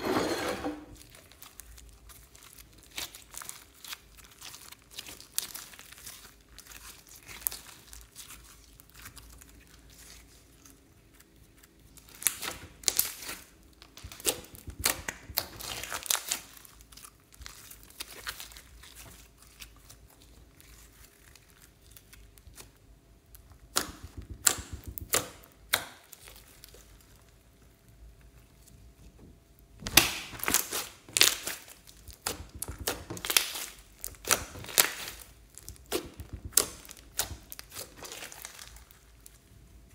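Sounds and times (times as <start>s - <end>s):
slime squishing: 0.9s - 29.0s, 29.8s - 39.9s
slime crackling and popping: 1.0s - 28.0s, 29.8s - 39.6s.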